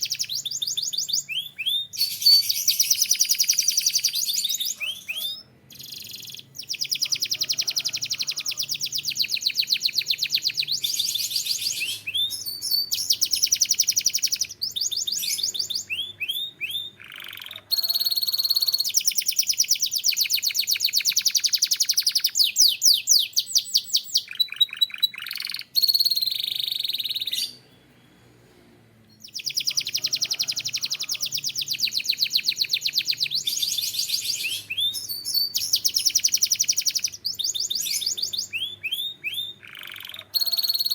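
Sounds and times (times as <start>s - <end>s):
canary singing trills: 0.0s - 28.2s, 29.1s - 40.9s.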